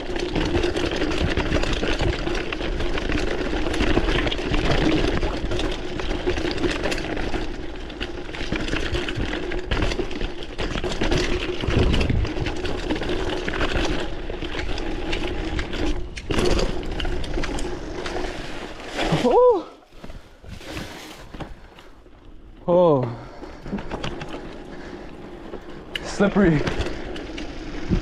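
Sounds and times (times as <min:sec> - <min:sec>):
bike rattling over bumps: 0:00.0 - 0:28.0
bike tyres on wet trail: 0:00.0 - 0:28.0.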